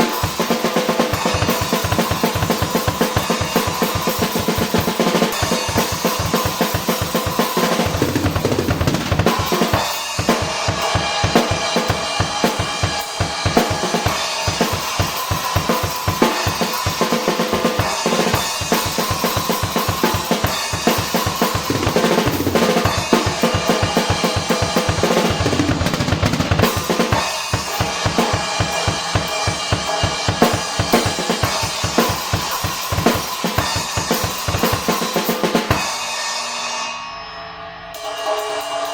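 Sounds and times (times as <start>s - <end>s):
kick and snare drum strokes: 0.0s - 35.9s
cymbal wash: 0.0s - 38.9s.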